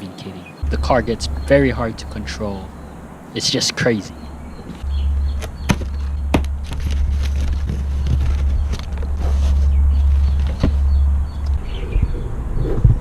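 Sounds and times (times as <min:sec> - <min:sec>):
car engine and road drone: 0:00.6 - 0:13.0.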